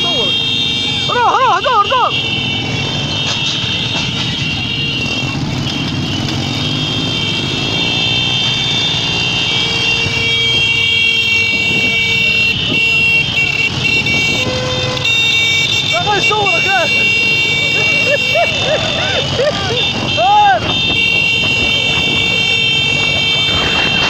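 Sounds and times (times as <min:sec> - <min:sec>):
vehicle horns held: 0:00.0 - 0:19.1, 0:19.7 - 0:24.0
motorbike engine and road rush: 0:00.0 - 0:24.0.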